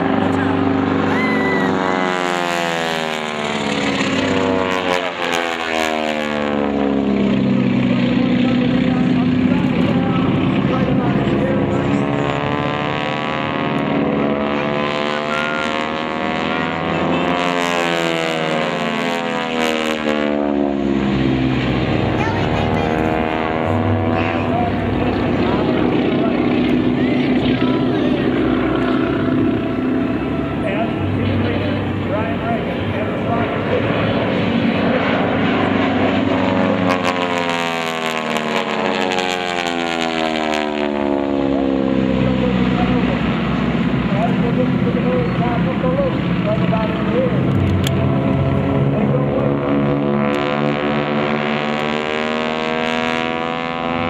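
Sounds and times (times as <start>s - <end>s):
propeller planes droning overhead: 0.0s - 54.0s.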